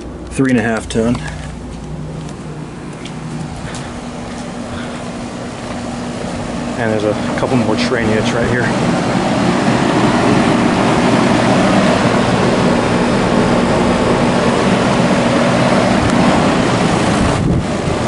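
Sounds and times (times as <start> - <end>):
condenser fans rushing: 0.0 - 18.0
motor and compressor hum: 0.0 - 18.0.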